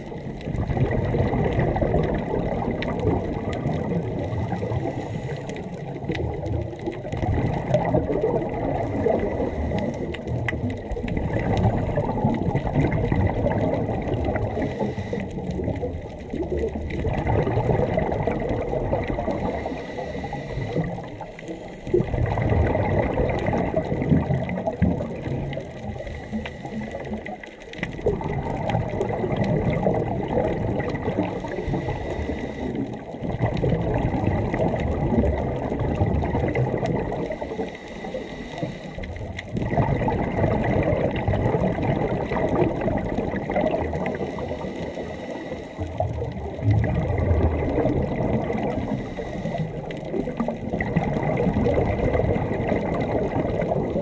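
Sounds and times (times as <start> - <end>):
underwater bubbles gurgling: 0.0 - 54.0.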